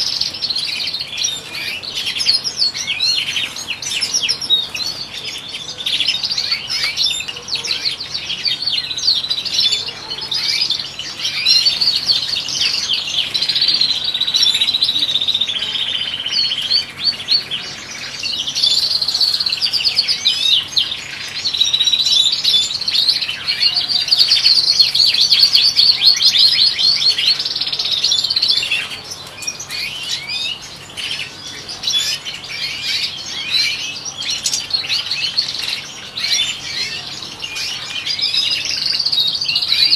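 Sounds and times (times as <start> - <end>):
finches twittering and trilling: 0.0 - 39.9.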